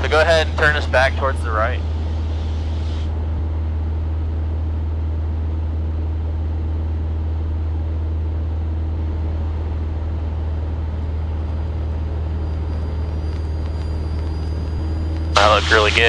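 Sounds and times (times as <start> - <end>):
light aircraft engine humming: 0.0 - 16.0.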